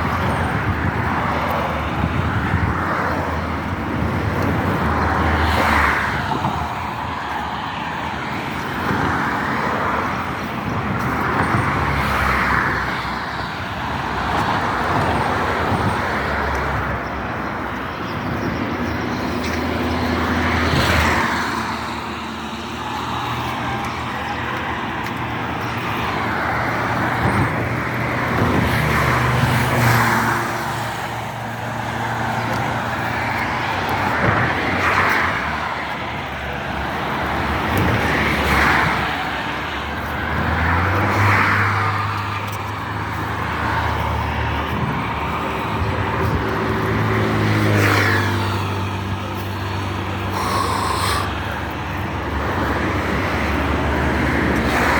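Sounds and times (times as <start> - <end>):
vehicles passing: 0.0 - 54.9.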